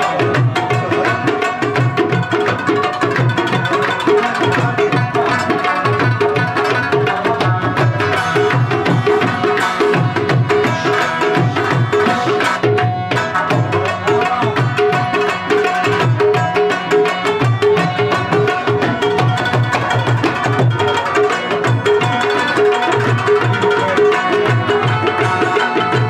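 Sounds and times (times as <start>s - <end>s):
harmonium: 0.0s - 26.0s
plucked rubab: 0.0s - 26.0s
tabla drumming: 0.0s - 26.0s.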